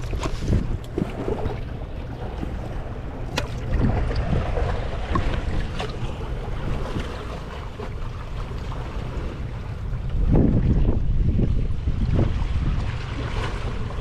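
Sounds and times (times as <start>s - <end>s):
river water lapping: 0.0s - 14.0s
wind rumbling on microphone: 0.0s - 14.0s.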